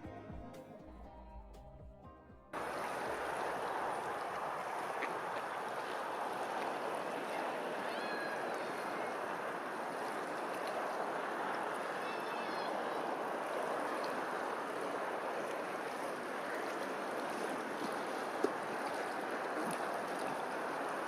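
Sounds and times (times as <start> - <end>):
running water rushing: 2.6 - 21.0.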